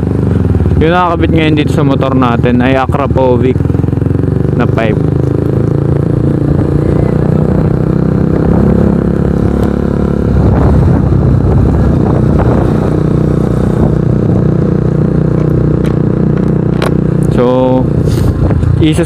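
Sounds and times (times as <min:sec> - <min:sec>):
motorcycle engine exhaust note: 0:00.0 - 0:19.0.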